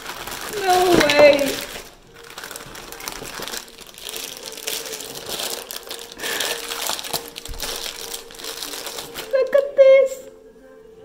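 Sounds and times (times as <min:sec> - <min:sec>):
gift packaging crinkling: 0:00.0 - 0:09.8.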